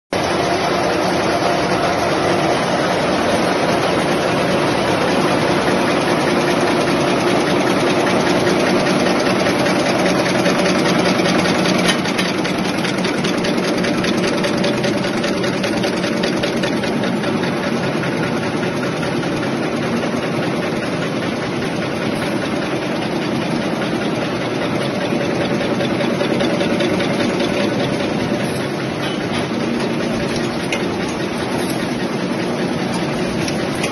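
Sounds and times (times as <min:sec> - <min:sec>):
packing machine humming: 0:00.2 - 0:33.9
rapid mechanical clicking: 0:00.2 - 0:33.9.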